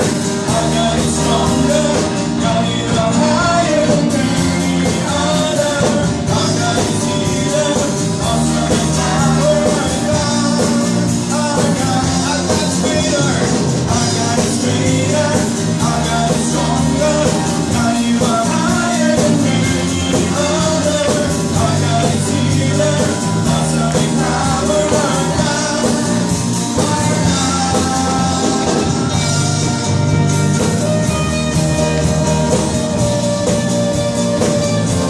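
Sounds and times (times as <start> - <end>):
acoustic and electric guitars: 0.0 - 35.0
people singing into microphones: 0.0 - 35.0
steady drum beat: 0.0 - 35.0.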